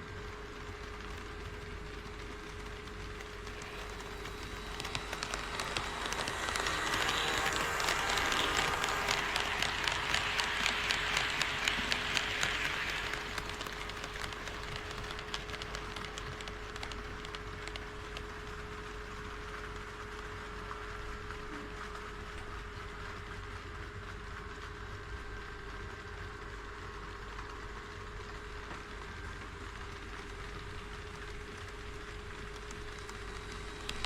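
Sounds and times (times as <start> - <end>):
model train wheels clicking on rails: 0.1 - 23.2, 29.0 - 34.0.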